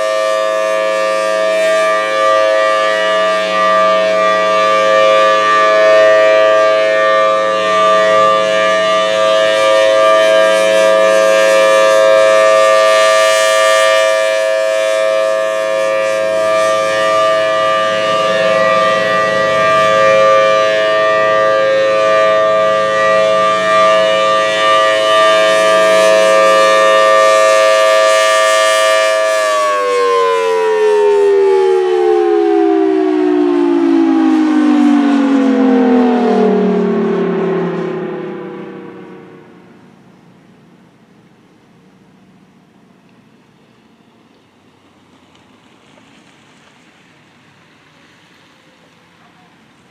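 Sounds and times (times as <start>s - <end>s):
tornado siren: 0.0s - 49.9s.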